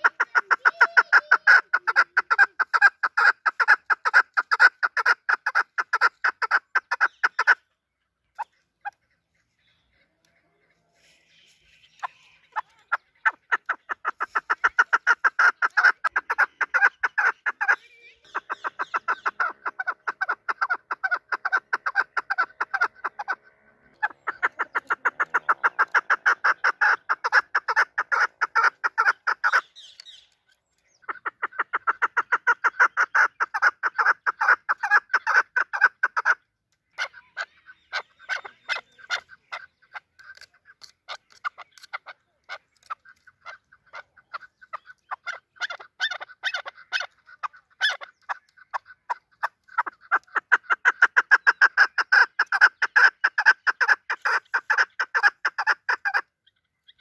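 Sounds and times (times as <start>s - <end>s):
partridge chattering calls: 0.0s - 57.0s.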